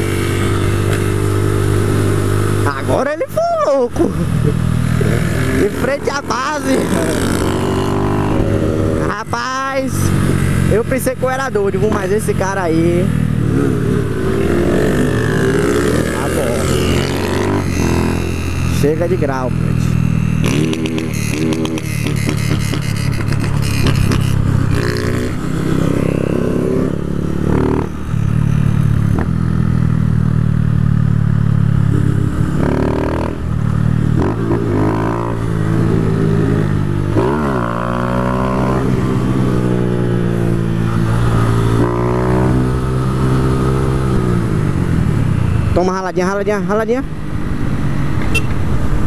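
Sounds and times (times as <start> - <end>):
wind and road noise: 0.0 - 49.0
motorcycle engine running: 4.0 - 45.8.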